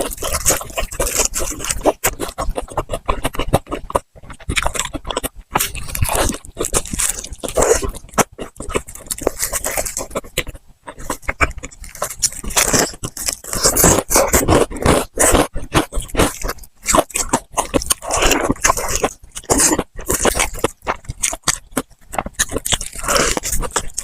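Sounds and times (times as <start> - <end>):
person chewing crunchy food: 0.0 - 24.0
wet mouth noises: 0.0 - 24.0.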